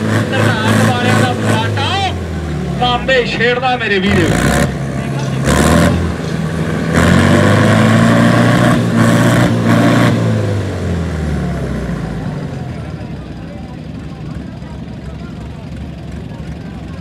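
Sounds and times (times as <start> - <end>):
diesel tractor engines under load: 0.0 - 17.0.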